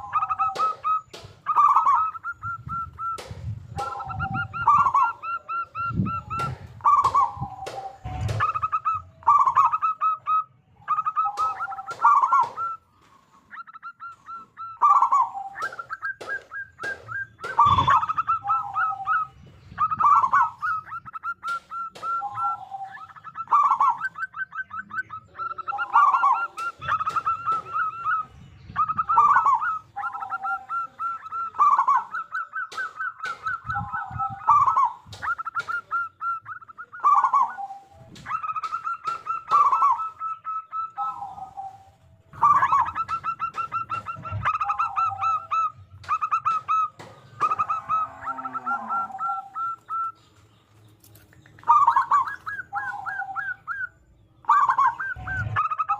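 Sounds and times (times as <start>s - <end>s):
doves cooing: 0.0s - 50.5s, 51.2s - 55.9s.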